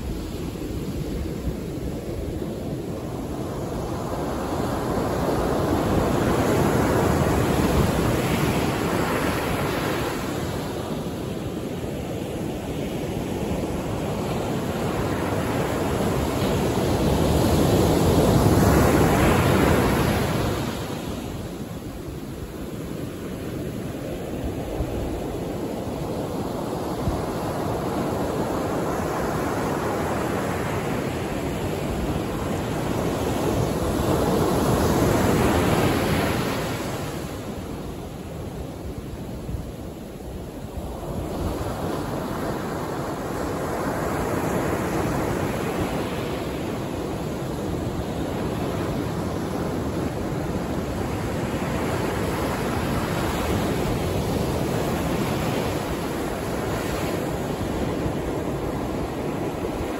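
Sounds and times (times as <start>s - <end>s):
ocean surf on sandy beach: 0.0s - 59.9s.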